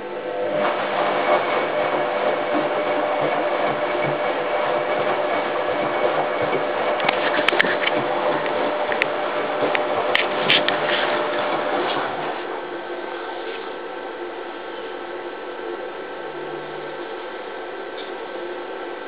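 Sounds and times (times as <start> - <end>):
washing machine drum churning: 0.1 - 18.6.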